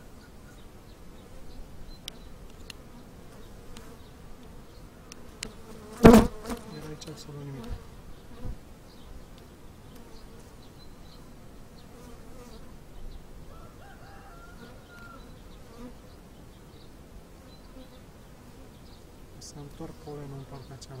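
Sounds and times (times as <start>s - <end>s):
honeybees humming: 0.0s - 21.0s.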